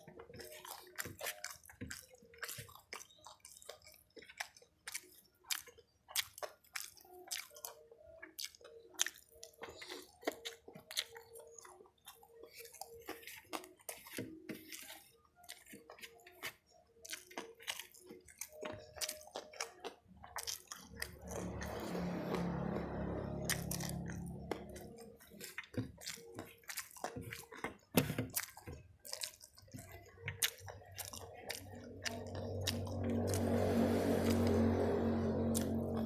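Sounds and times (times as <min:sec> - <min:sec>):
wet chewing: 0:00.0 - 0:36.0.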